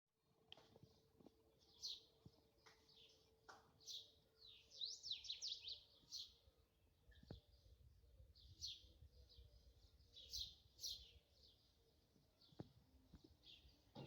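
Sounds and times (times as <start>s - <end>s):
faint birds chirping: 0.5s - 14.0s.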